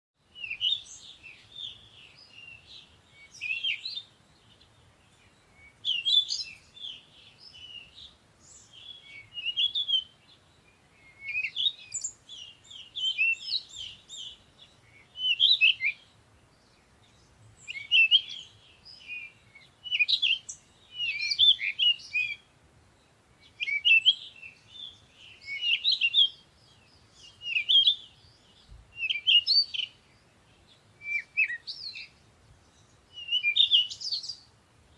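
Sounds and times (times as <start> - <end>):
birds chirping: 0.4 - 34.9.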